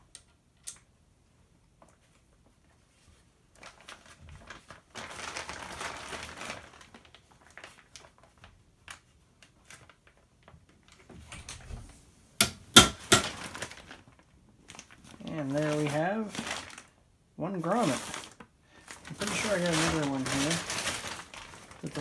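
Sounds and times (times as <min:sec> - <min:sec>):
plastic tarp crinkling: 0:02.4 - 0:11.1, 0:13.0 - 0:22.0.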